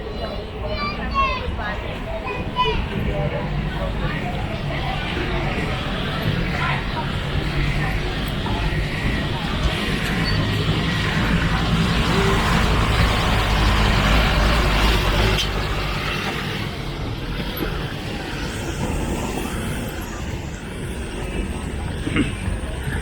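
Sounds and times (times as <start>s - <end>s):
street noise: 0.0s - 23.0s
vehicle engine rumbling: 2.0s - 23.0s.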